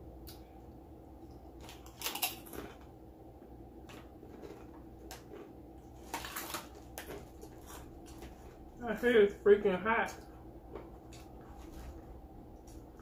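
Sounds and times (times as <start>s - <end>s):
steady low hum: 0.0s - 13.0s
eating and handling crackles: 0.2s - 9.4s, 10.0s - 13.0s.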